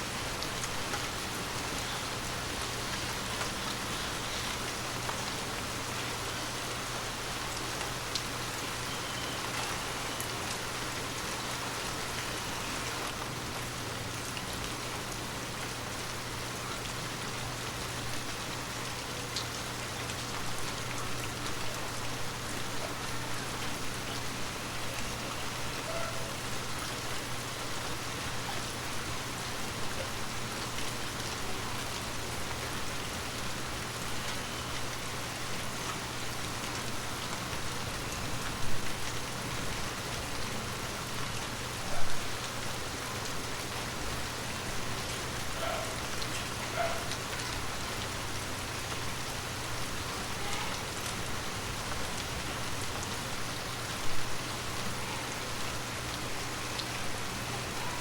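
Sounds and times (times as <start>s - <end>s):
heavy rain on hard surface: 0.0s - 58.0s.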